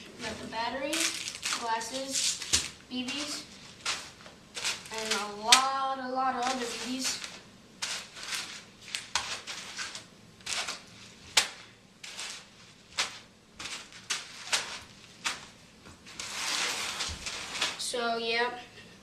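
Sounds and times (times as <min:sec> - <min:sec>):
plastic packaging crinkling: 0:00.8 - 0:05.8, 0:06.4 - 0:17.8.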